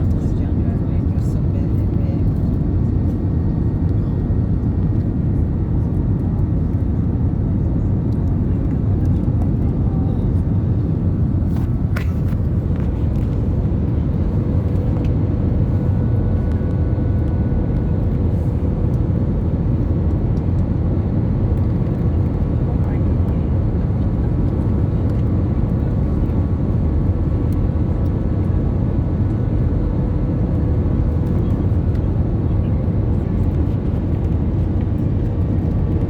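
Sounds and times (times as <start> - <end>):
airplane cabin rumble: 0.0 - 36.0.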